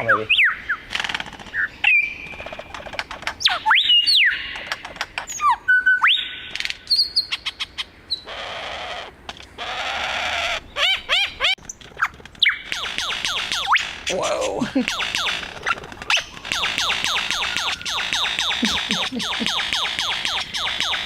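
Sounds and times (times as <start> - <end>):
lyrebird singing: 0.0 - 8.7, 9.6 - 21.0.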